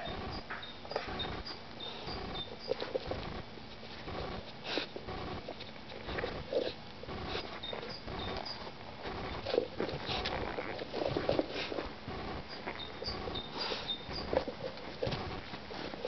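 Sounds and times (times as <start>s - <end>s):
puppy sniffing and snuffling: 0.0s - 16.0s.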